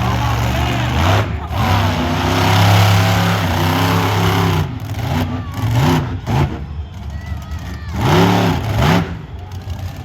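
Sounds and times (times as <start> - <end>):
truck engine running and revving: 0.0 - 10.0.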